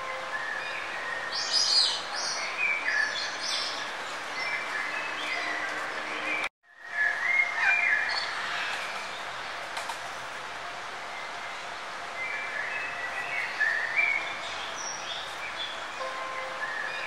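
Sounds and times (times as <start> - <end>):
birds chirping: 0.0 - 9.6, 11.0 - 17.0
outdoor background hiss: 0.0 - 17.0.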